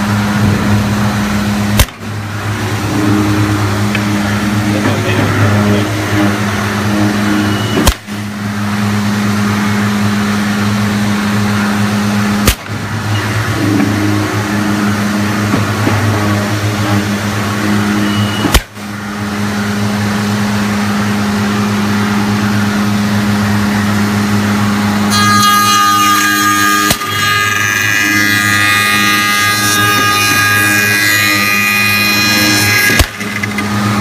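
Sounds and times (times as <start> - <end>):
woodworking machine motor hum: 0.0 - 34.0.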